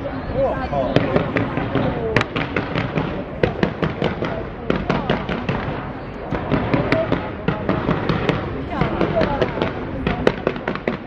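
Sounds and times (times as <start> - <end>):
continuous rumble: 0.0 - 11.0
fireworks bangs and crackles: 0.9 - 11.0.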